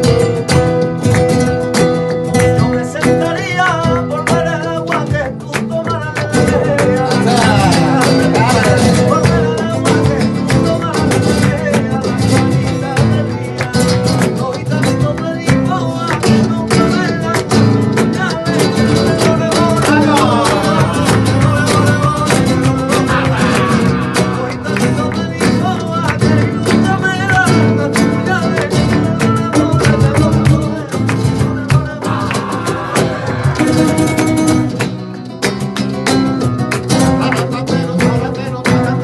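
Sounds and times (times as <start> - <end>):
acoustic guitar strumming and picking: 0.0 - 39.0
rhythmic hand clapping: 0.0 - 39.0
person singing: 2.4 - 35.0.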